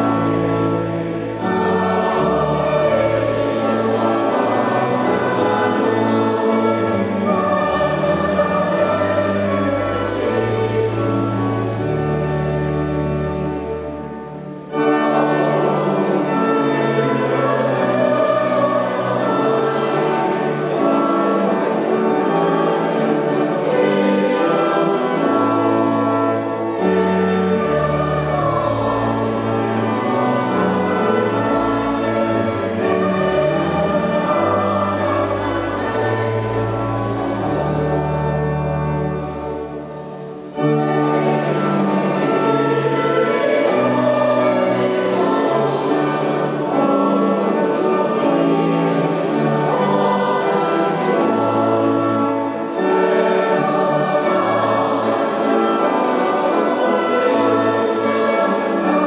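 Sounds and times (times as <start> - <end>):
choir singing: 0.0 - 59.0
pipe organ chords: 0.0 - 59.0.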